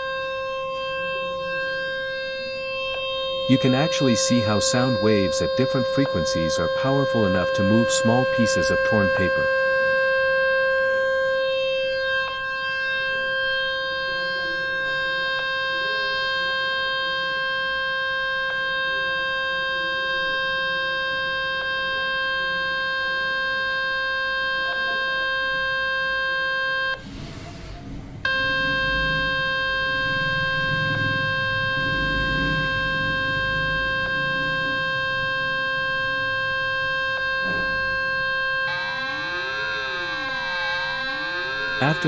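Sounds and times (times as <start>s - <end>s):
buzzing tone from speaker: 0.0s - 27.0s, 28.2s - 42.0s.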